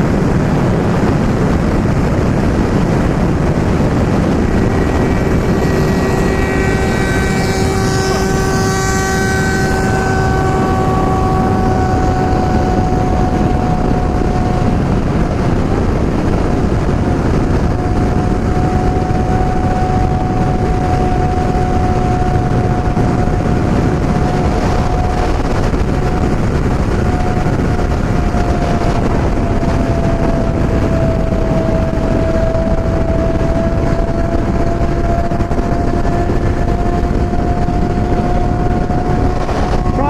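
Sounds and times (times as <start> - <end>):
motorcycle engine cruising: 0.0 - 40.0
wind rush: 0.0 - 40.0.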